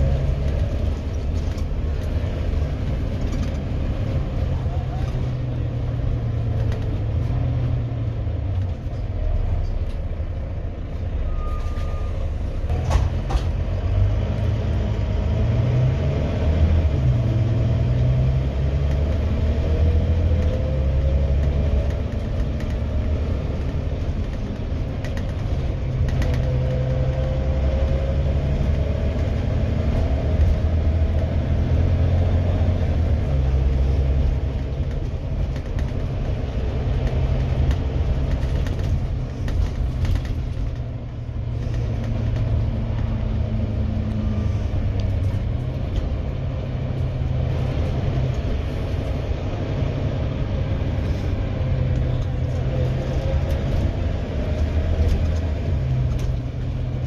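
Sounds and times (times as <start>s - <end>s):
bus diesel engine hum: 0.0s - 57.0s.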